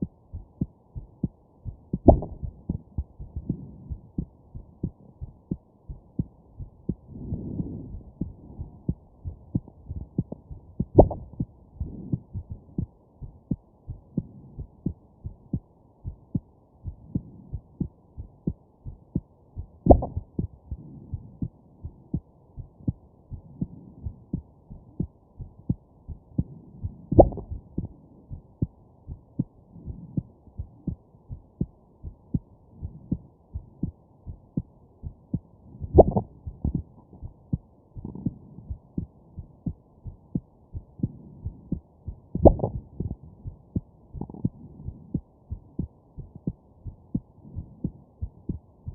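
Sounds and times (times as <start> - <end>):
soft heartbeat: 0.0 - 48.9.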